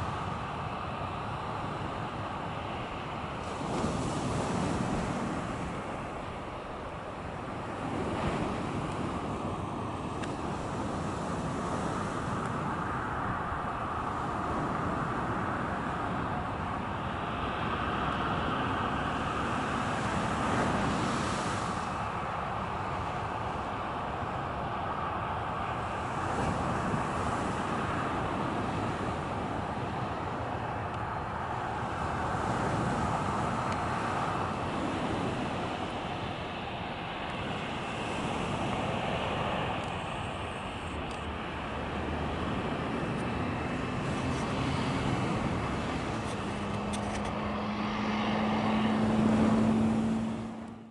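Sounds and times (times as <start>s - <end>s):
jet engines at taxi power: 0.0s - 50.9s.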